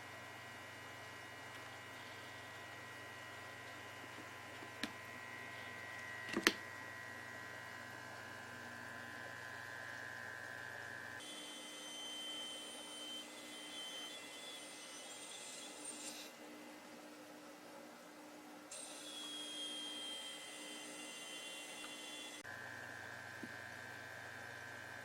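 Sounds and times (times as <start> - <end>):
air blower electric hum: 0.0 - 16.6, 18.7 - 25.0.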